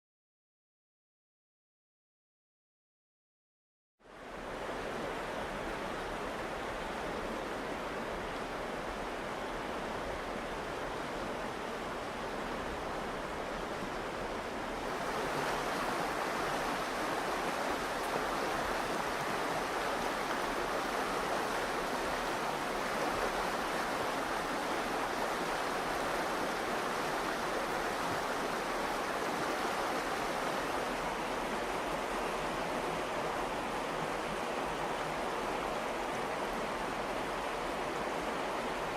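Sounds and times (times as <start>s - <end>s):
river flowing: 4.0s - 38.9s.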